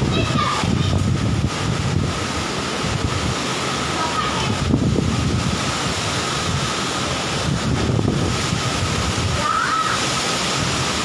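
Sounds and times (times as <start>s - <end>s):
heavy rain pouring: 0.0s - 11.0s
wind gusts buffeting microphone: 0.0s - 11.0s.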